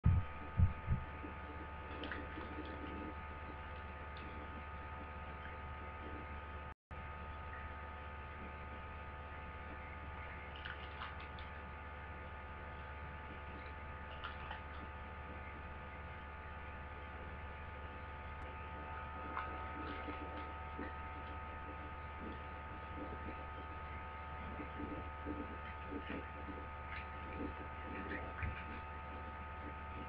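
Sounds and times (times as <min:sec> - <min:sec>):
electrical hum with high whine: 0:00.0 - 0:30.0.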